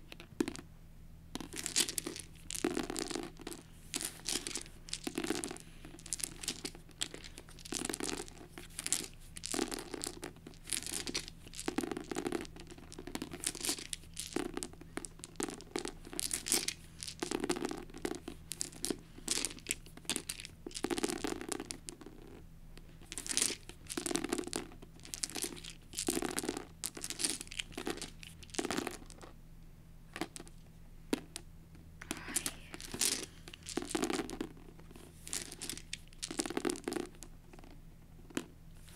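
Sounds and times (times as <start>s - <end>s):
plastic dice clicking: 1.3s - 22.4s, 23.0s - 29.3s, 32.0s - 34.6s, 35.3s - 38.5s.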